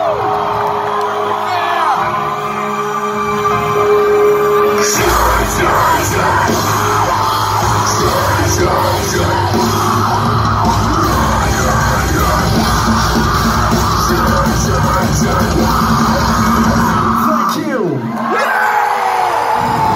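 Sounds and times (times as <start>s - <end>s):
live heavy rock band: 0.0s - 17.6s
drums: 0.0s - 19.9s
yelled vocals: 1.1s - 19.9s.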